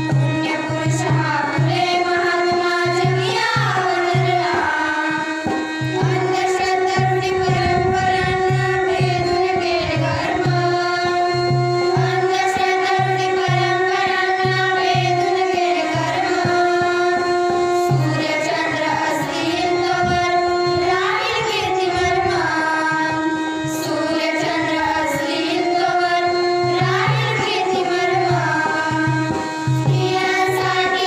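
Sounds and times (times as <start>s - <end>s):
girls singing together: 0.0s - 31.0s.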